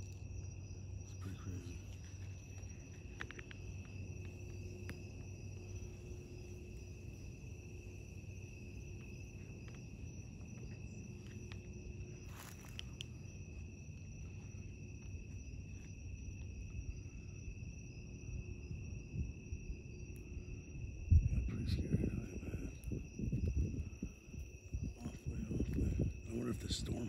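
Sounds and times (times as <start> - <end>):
low background rumble: 0.0 - 27.0
night insects trilling: 0.0 - 27.0.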